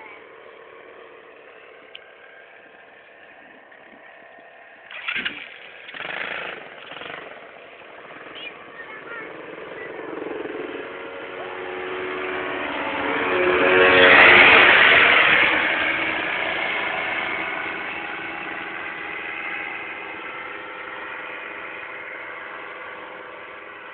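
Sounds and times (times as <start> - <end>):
paramotor engine flying past: 0.0 - 23.9.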